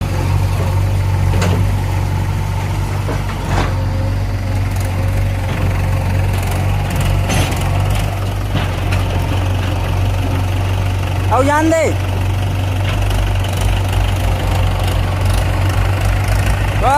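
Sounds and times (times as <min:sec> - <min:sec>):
diesel engine droning: 0:00.0 - 0:16.9.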